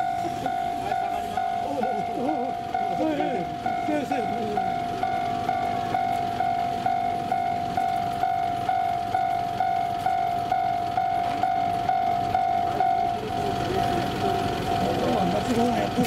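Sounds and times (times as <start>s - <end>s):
level-crossing warning bell ringing: 0.0s - 16.0s.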